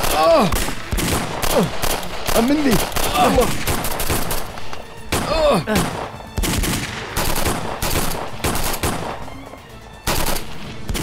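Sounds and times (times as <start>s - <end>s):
gunshots and automatic bursts: 0.0s - 9.2s, 10.1s - 11.0s.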